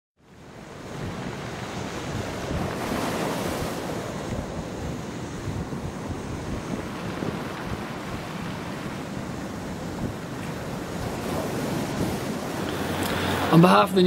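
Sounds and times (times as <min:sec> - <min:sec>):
wind: 0:00.2 - 0:14.0
ocean waves breaking on rocks: 0:00.3 - 0:14.0.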